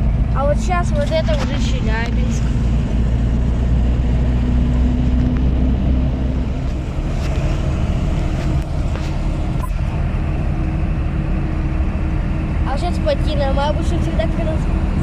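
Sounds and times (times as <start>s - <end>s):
car engine droning: 0.0s - 15.0s
tyre and road noise: 0.0s - 15.0s.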